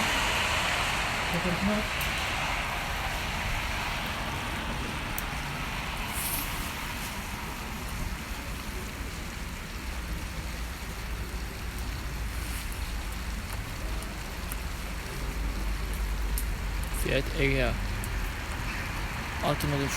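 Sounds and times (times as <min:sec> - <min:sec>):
distant cars rumbling: 0:00.0 - 0:19.9
wind and rain on microphone: 0:00.0 - 0:19.9.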